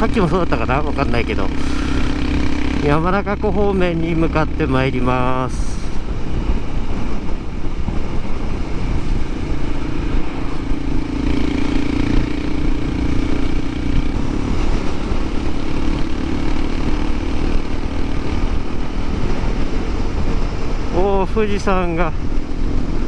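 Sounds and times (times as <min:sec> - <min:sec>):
motorcycle engine running: 0:00.0 - 0:21.1, 0:21.7 - 0:23.0
wind rush on microphone: 0:00.0 - 0:23.0.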